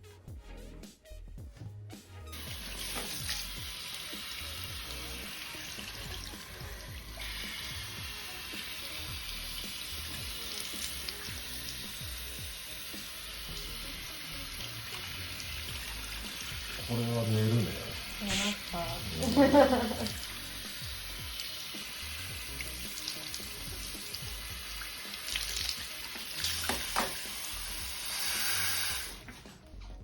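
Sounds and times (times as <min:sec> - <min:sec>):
background music: 0:00.0 - 0:30.0
water running from shower head: 0:02.3 - 0:29.4.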